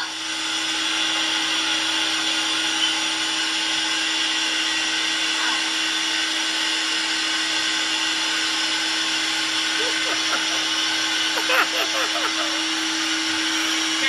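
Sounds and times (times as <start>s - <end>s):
electric hair clippers buzzing: 0.0s - 14.0s.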